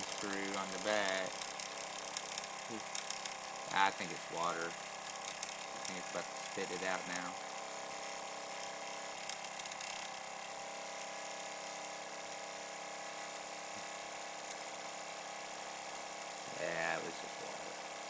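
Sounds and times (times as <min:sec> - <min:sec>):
toy steam engine whirring: 0:00.0 - 0:18.0.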